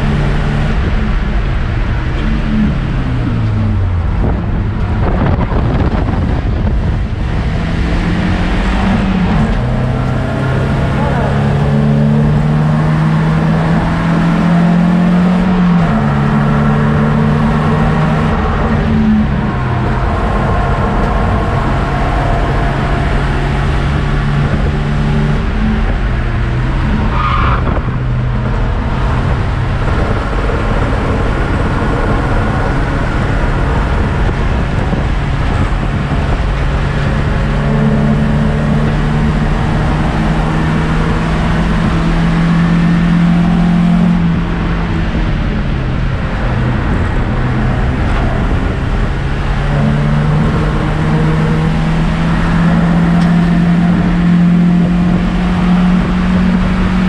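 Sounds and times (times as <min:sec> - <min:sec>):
car engine under hard load: 0:00.0 - 0:57.0
road noise: 0:00.0 - 0:57.0.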